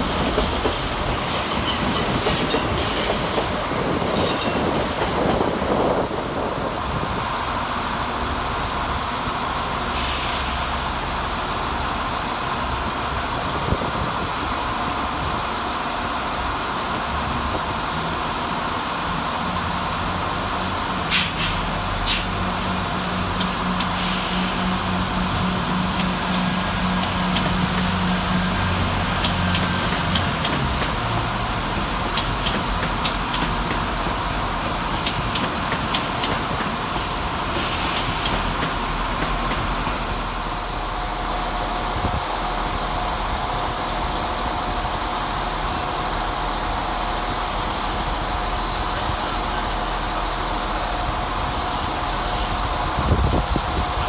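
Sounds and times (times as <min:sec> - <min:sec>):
steady whine of approaching train: 0:00.0 - 0:54.0
train wheels rumbling on rail: 0:00.0 - 0:54.0.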